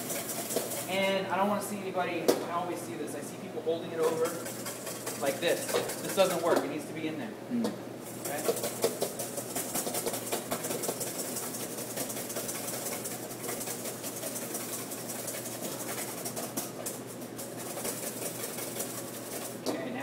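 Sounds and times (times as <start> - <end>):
wire whisk beating in metal bowl: 0.0 - 2.7, 3.6 - 6.9, 8.1 - 20.0.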